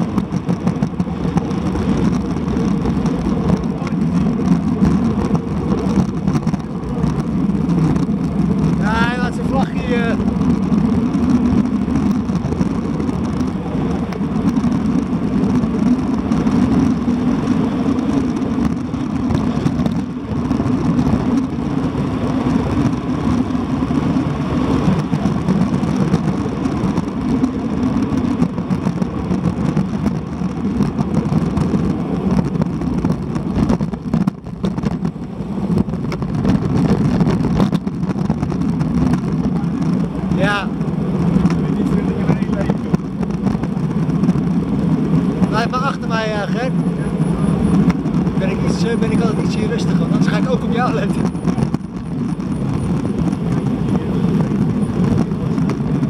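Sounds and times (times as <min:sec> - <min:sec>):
wind roaring over microphone: 0:00.0 - 0:56.0.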